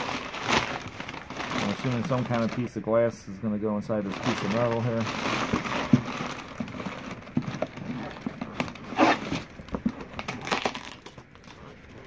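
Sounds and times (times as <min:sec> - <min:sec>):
packing wrap crinkling: 0:00.0 - 0:02.8, 0:03.9 - 0:12.0.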